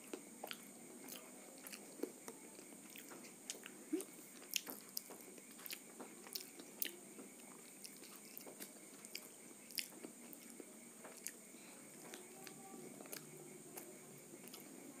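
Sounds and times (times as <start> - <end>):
person chewing crunchy food: 0.0 - 14.7.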